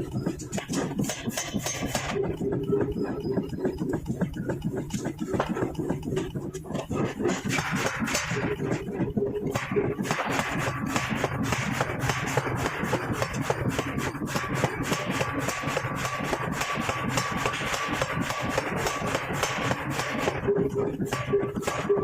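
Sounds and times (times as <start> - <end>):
rapid metal strikes: 0.0 - 22.0
thin steady machine whine: 0.0 - 22.0.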